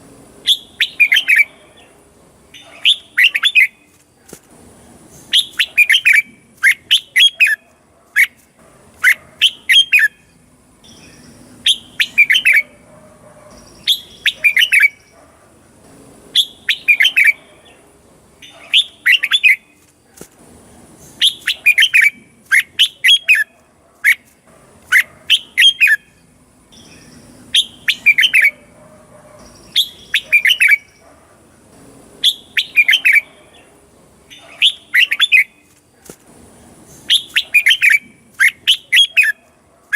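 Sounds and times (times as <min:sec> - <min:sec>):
bulbul singing: 0:00.4 - 0:04.0, 0:05.0 - 0:07.6, 0:08.2 - 0:19.8, 0:20.9 - 0:31.0, 0:32.2 - 0:35.7, 0:36.7 - 0:39.6.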